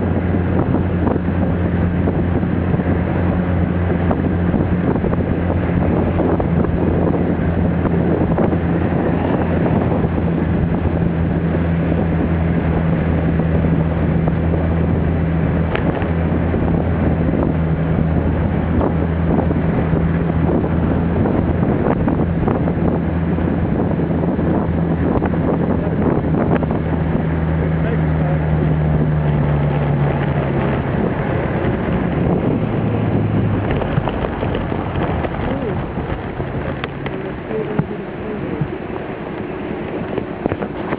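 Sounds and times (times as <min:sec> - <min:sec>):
scooter engine humming: 0:00.0 - 0:40.9
wind rushing over microphone: 0:00.0 - 0:40.9.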